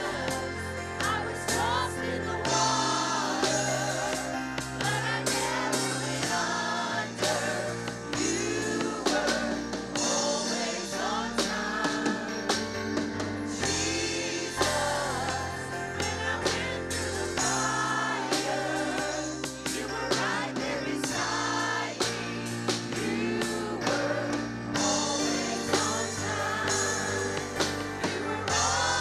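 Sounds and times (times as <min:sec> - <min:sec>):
drum kit beat: 0:00.0 - 0:29.0
group singing: 0:00.0 - 0:29.0.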